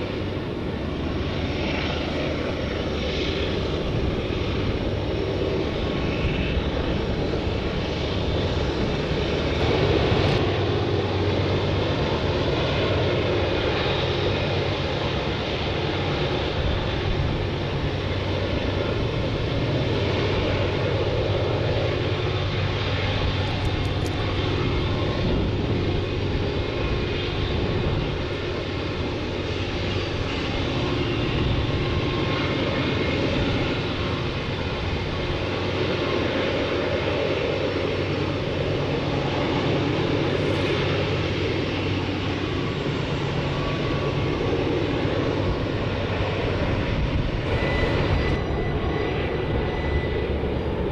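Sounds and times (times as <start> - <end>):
engine drone with low hum: 0.0 - 50.9.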